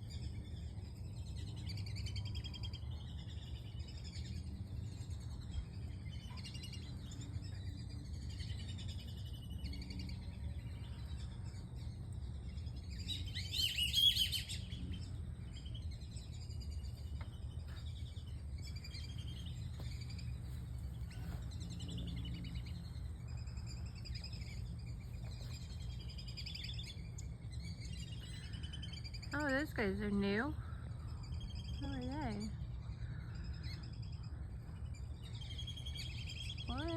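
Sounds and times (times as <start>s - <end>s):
birds chirping: 0.0s - 36.9s
steady low hum: 0.0s - 36.9s.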